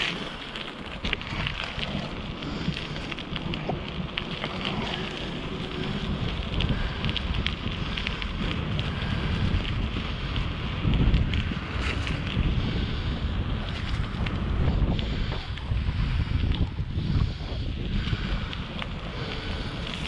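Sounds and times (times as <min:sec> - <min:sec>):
small clicks and crackles: 0:00.0 - 0:20.0
wind buffeting microphone: 0:00.0 - 0:20.0.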